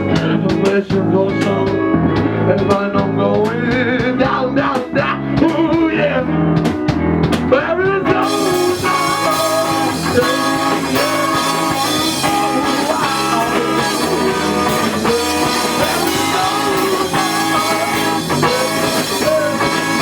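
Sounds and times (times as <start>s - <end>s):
blues-rock band playing: 0.0s - 20.0s
electric guitar with bent notes: 0.0s - 20.0s.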